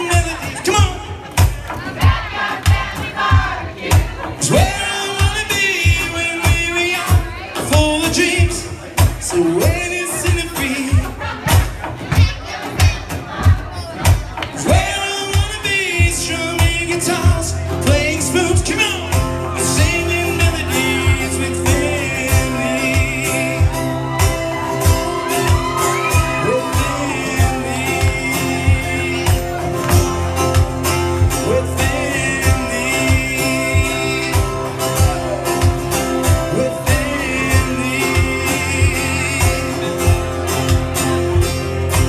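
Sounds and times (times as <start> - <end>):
man singing into microphone: 0.0 - 1.6, 4.2 - 13.0, 14.6 - 42.0
guitars: 0.0 - 42.0
steady beat: 0.0 - 42.0.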